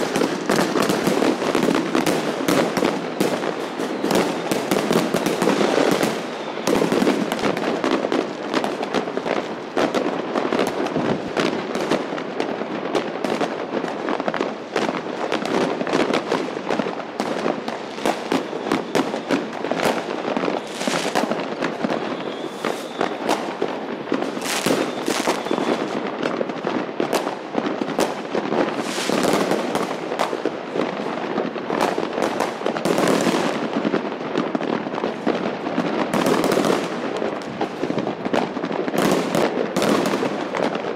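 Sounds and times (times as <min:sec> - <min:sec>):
fireworks crackling and banging: 0:00.0 - 0:40.9.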